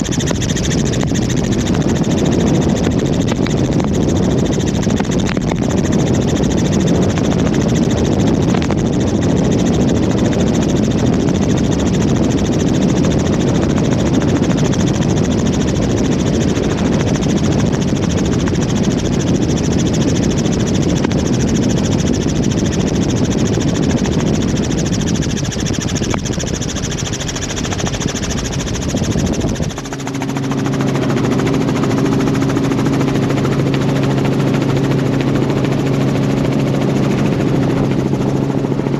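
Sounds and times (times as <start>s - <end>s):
droning hum: 0.0s - 38.9s
helicopter rotor and engine rumble: 0.0s - 38.9s.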